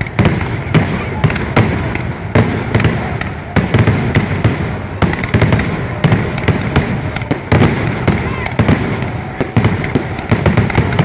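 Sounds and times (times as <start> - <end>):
fireworks bangs: 0.0 - 11.0
fireworks rumble and crackle: 0.0 - 11.0.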